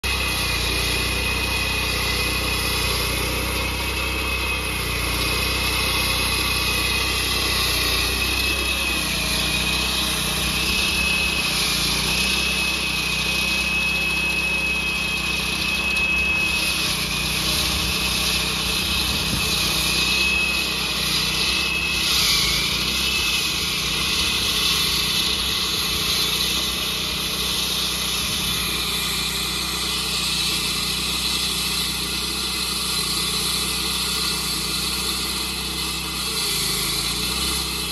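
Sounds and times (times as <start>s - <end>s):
saw blade whining: 0.0s - 37.9s
small engine running under load: 0.0s - 37.9s.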